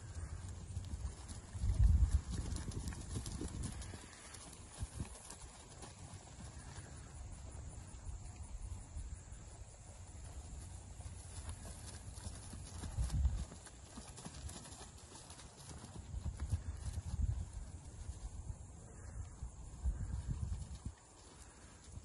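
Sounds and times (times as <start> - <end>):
hoofbeats on grass: 0.0 - 8.4, 9.1 - 18.8, 19.7 - 22.0.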